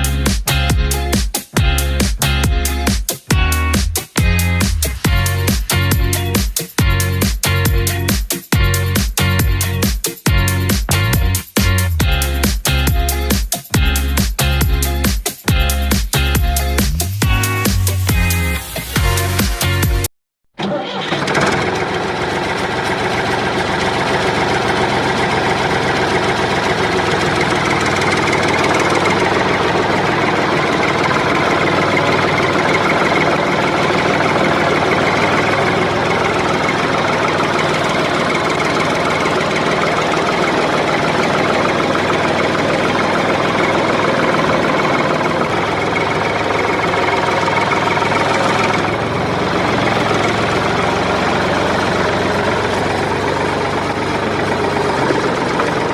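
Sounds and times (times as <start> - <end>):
engine idling with knocking clatter: 0.0 - 18.4, 20.6 - 55.9.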